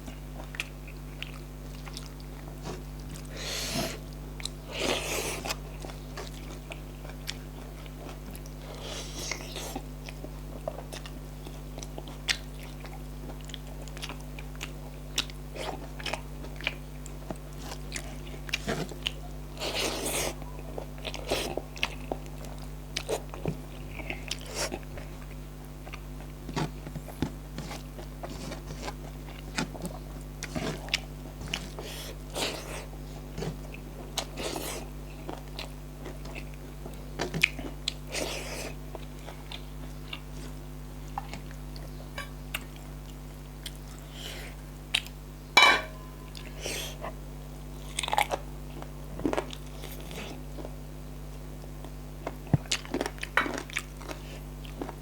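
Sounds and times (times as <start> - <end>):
food crunching: 0.0 - 47.0, 47.7 - 50.8, 51.6 - 55.0
person chewing food: 0.0 - 55.0
steady low hum: 0.0 - 55.0.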